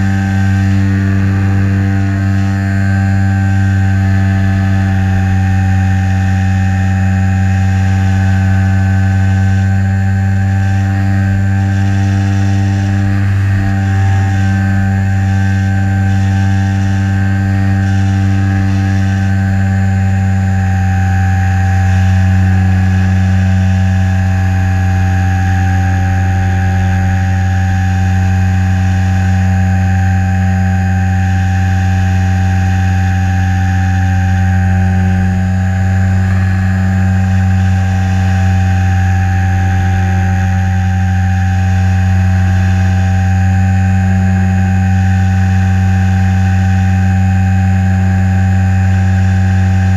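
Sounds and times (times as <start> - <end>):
electric motor and propeller hum: 0.0 - 49.9.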